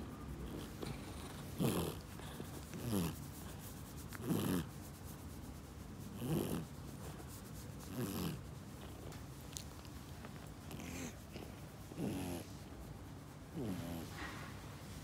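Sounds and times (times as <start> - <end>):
cat purring: 0.0 - 5.0, 6.0 - 14.4.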